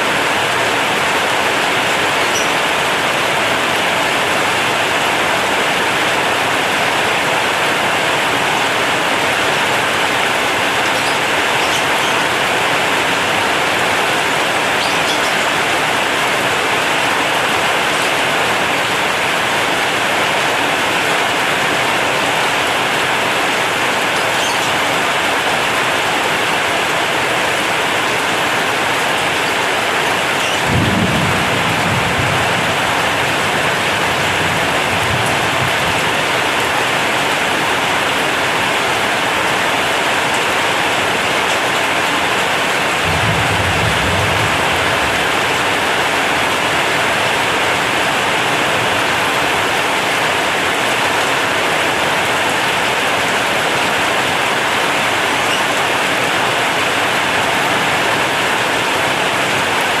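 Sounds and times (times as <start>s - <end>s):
heavy rain on a metal roof: 0.0s - 60.0s.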